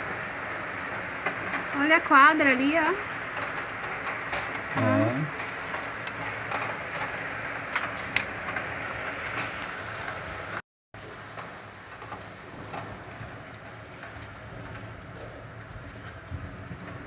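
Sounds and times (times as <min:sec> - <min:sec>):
hailstones clicking: 0:00.0 - 0:10.4, 0:11.1 - 0:17.0
heavy rain and hail: 0:00.0 - 0:17.0.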